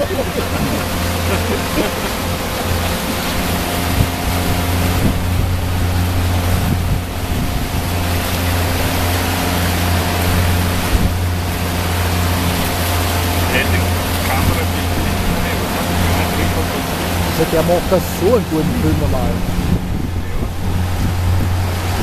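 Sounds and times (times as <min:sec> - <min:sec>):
outboard motor running: 0:00.0 - 0:22.0
water rushing past hull: 0:00.0 - 0:22.0.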